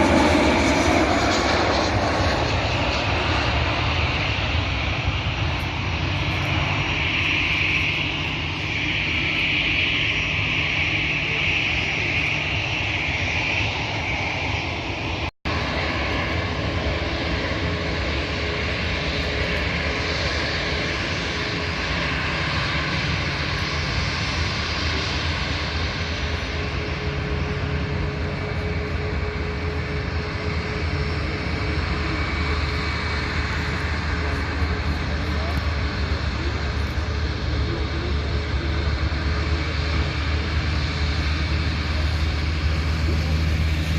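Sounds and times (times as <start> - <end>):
airliner engines roaring: 0.0 - 43.9
high engine whine: 0.0 - 43.9.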